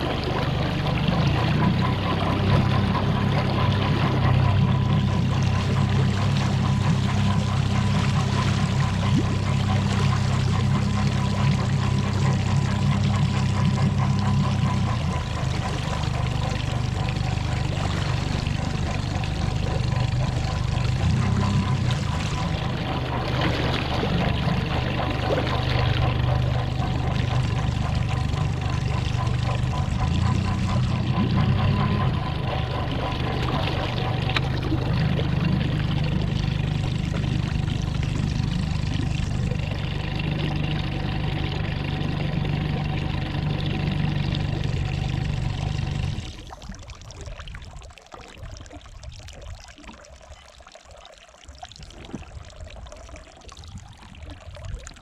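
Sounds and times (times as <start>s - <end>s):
thin steady whine: 0.0s - 46.6s
outboard motor running: 0.0s - 50.4s
water splashing and rushing: 0.0s - 55.0s.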